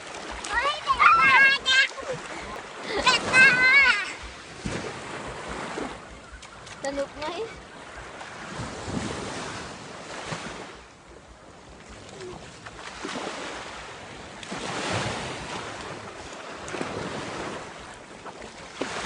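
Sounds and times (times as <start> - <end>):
waves washing on shore: 0.0 - 19.0
wind on microphone: 0.0 - 19.0.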